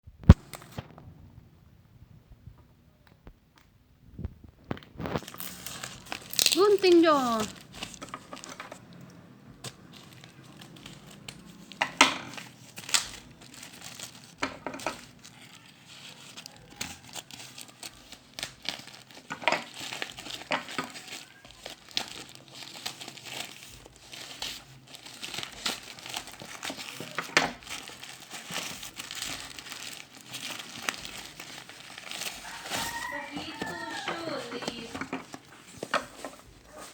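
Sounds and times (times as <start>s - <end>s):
packaging crinkling and rustling: 3.0s - 36.9s.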